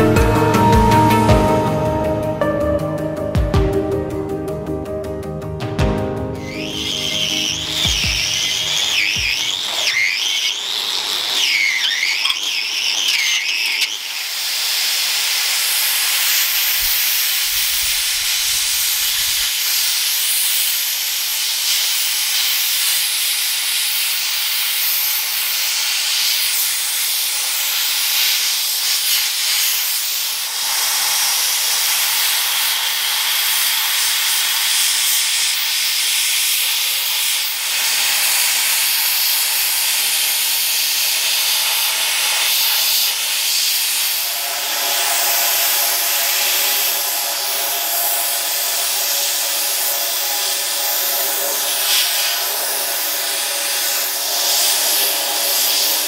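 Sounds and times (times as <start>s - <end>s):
air blast gun hissing: 6.4s - 56.0s.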